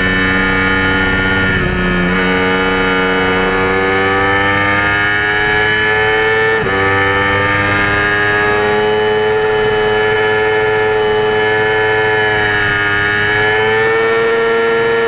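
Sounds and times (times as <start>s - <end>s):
motorcycle engine droning at high revs: 0.0s - 15.0s.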